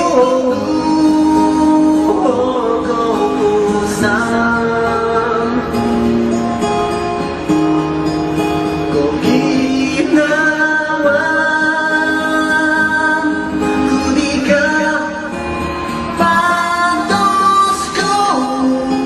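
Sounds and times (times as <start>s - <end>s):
person singing slow song: 0.0s - 7.1s, 8.5s - 19.0s
acoustic guitar: 0.0s - 19.0s.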